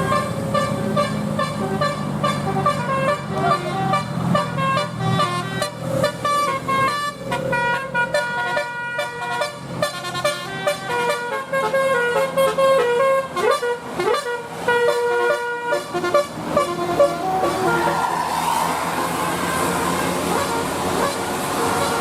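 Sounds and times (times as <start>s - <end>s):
bus engine rumble: 0.0s - 22.0s
musical bus horn melody: 0.0s - 22.0s.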